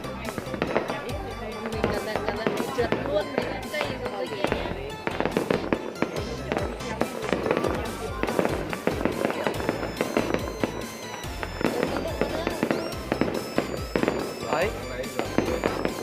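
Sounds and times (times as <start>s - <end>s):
fireworks bangs and crackles: 0.0s - 16.0s
low fireworks booms: 0.0s - 16.0s.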